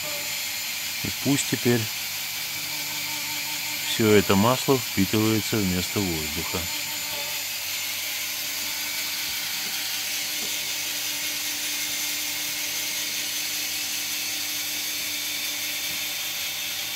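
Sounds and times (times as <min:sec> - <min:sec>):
vacuum pump running: 0:00.0 - 0:16.9.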